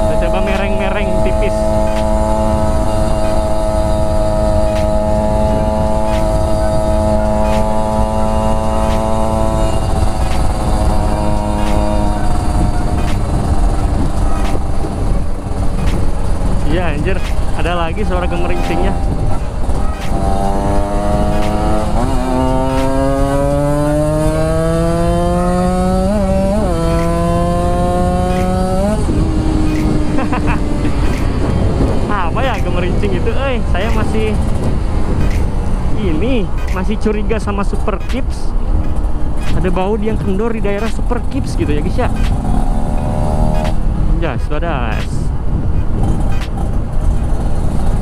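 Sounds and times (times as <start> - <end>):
motorcycle engine running: 0.0 - 48.0
wind rush on microphone: 0.0 - 48.0.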